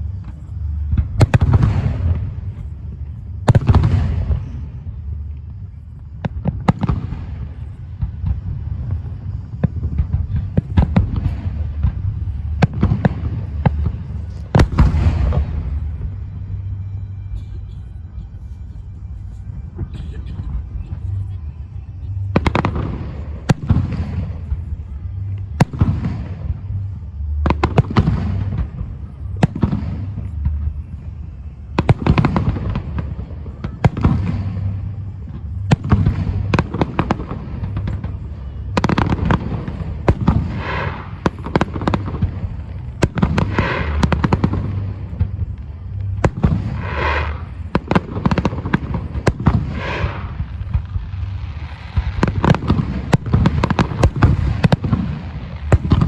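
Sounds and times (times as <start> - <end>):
fireworks bangs: 0.0 - 17.3, 19.5 - 56.0
fireworks crackling: 0.0 - 17.4, 18.6 - 56.0
rumbling echoes: 0.0 - 56.0.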